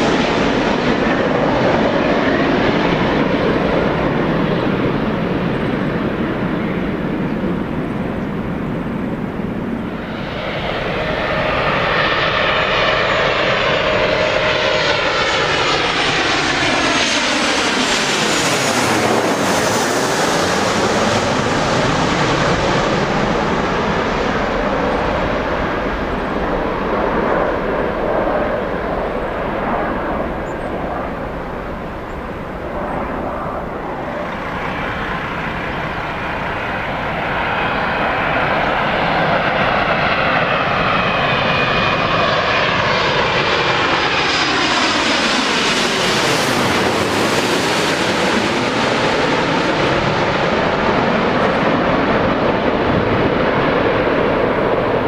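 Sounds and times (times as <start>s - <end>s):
jet airliner engines passing low: 0.0s - 55.0s.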